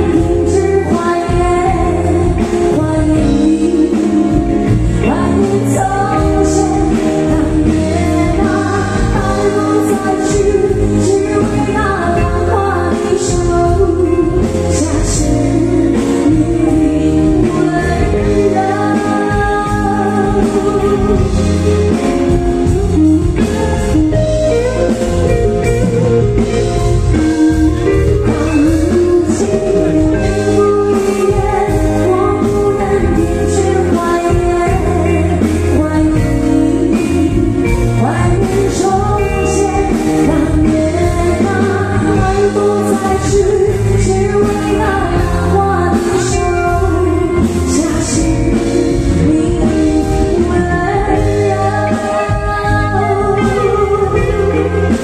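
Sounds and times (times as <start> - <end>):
live band playing: 0.0 - 55.0
woman singing a slow ballad: 0.0 - 55.0.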